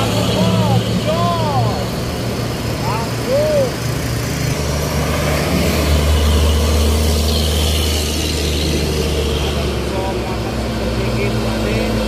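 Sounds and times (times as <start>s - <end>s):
road noise: 0.0s - 12.0s
truck diesel engine under load: 0.0s - 12.0s.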